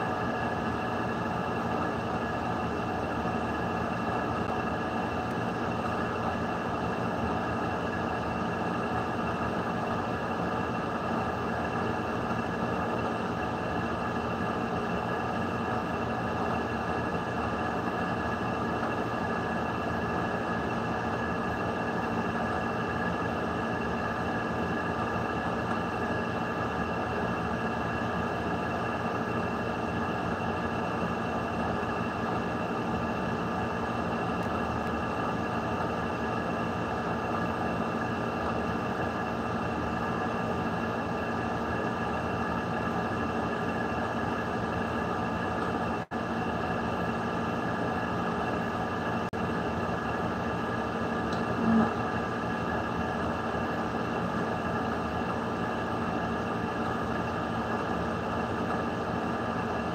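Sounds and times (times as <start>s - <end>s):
droning hum with held tones: 0.0s - 59.9s.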